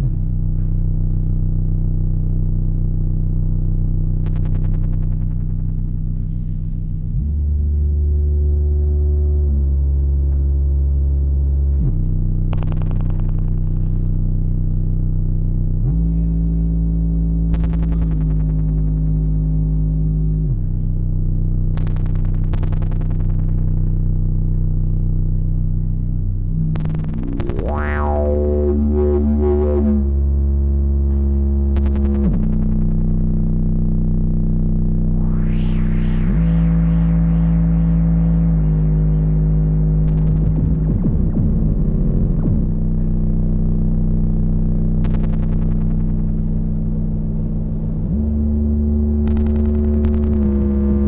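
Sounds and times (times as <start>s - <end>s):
deep synthesizer drone: 0.0s - 51.0s.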